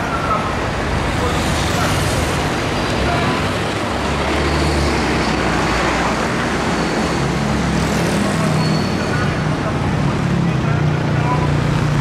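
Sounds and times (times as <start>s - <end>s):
street traffic passing: 0.0s - 12.0s.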